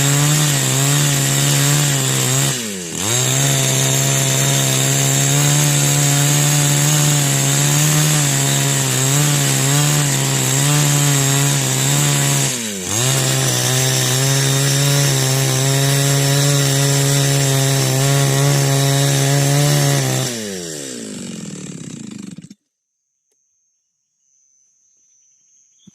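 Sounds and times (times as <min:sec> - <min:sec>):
chainsaw running at high speed: 0:00.0 - 0:22.6.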